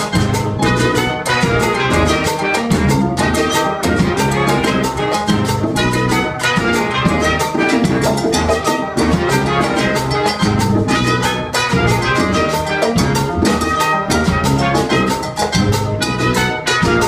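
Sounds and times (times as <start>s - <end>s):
latin big band playing salsa: 0.0s - 17.0s.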